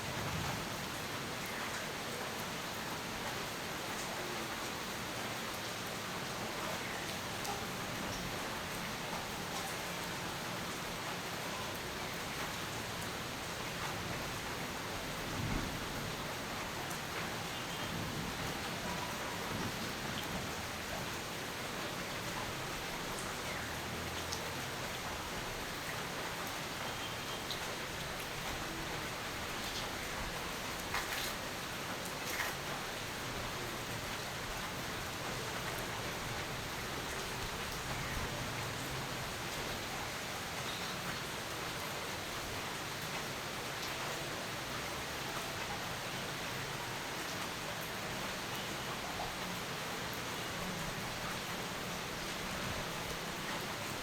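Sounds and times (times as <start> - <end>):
dense rainfall hissing: 0.0 - 54.0.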